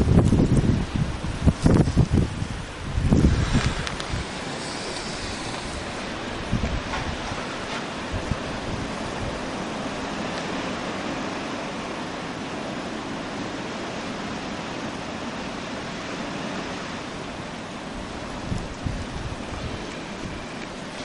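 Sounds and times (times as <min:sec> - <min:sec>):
blizzard wind blowing: 0:00.0 - 0:21.0.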